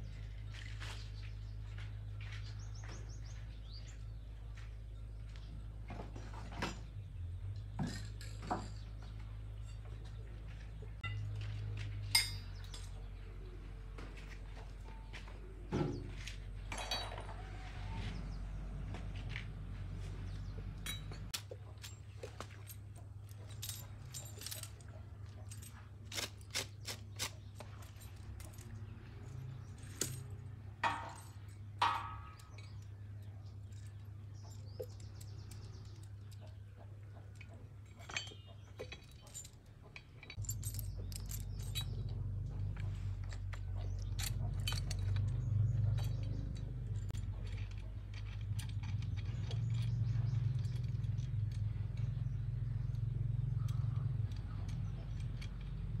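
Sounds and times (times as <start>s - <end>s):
metal tools clinking: 6.0s - 18.3s, 19.2s - 56.0s.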